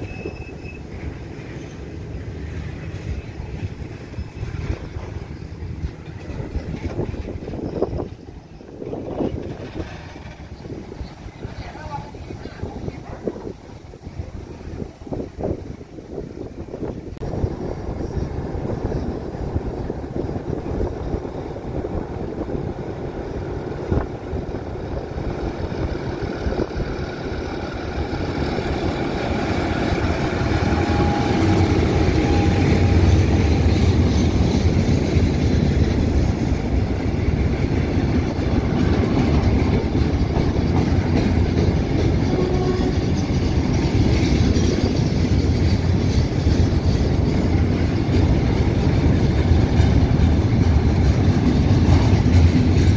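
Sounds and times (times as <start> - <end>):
diesel locomotive drawing in: 0.0 - 52.9
train wheels rumbling on rail: 0.0 - 52.9.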